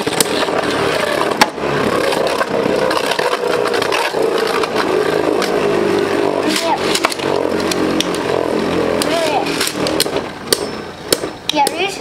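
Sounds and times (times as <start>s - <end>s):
spinning tops scraping whir: 0.0s - 12.0s.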